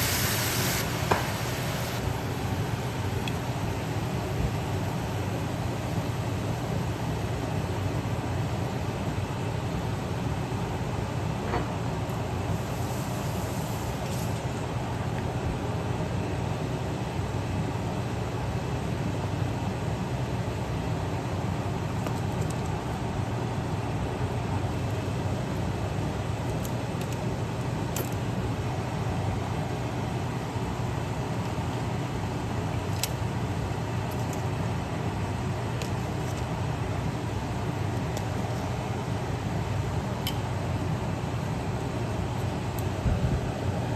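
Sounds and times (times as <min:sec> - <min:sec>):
exhaust fan humming: 0:00.0 - 0:43.9.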